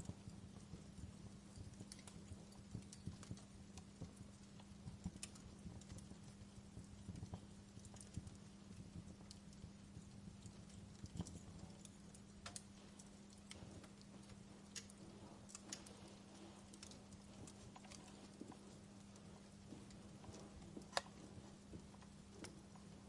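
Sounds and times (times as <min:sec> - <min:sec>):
faint low hum: 0:00.0 - 0:23.0
wood fire crackling: 0:00.0 - 0:23.0.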